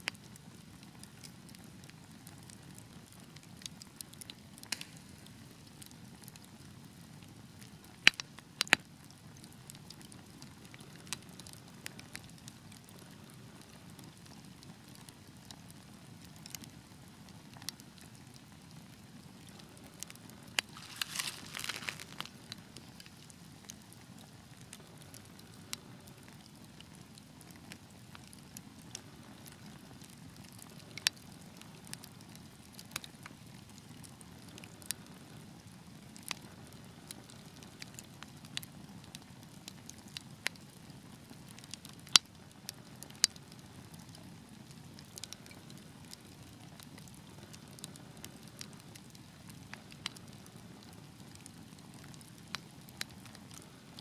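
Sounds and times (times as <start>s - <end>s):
wood fire crackles and pops: 0.0s - 54.0s
rumble of fire flames: 0.1s - 54.0s.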